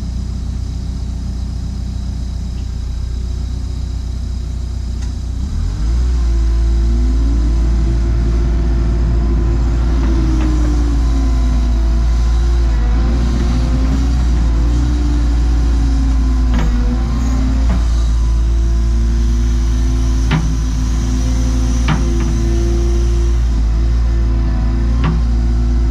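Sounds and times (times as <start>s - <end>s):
excavator diesel engine running: 0.0s - 25.9s
hydraulic whine: 5.0s - 25.9s.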